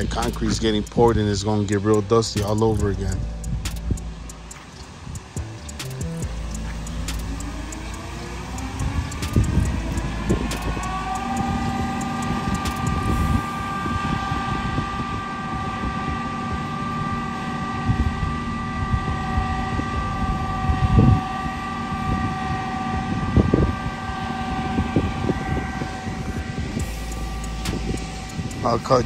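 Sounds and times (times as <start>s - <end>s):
mixer truck engine whine: 0.0s - 29.0s.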